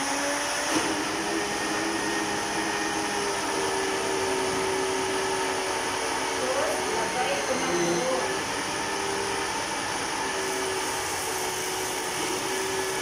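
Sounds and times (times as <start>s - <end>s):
kitchen appliance motor whirring: 0.0s - 13.0s.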